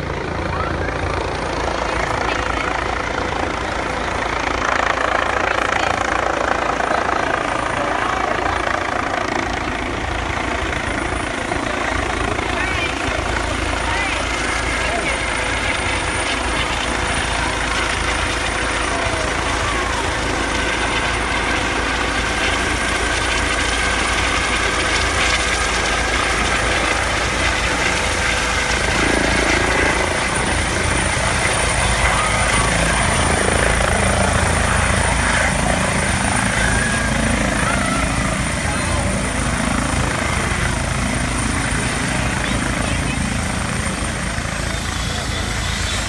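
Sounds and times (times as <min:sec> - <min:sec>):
helicopter rotor and turbine: 0:00.0 - 0:46.0.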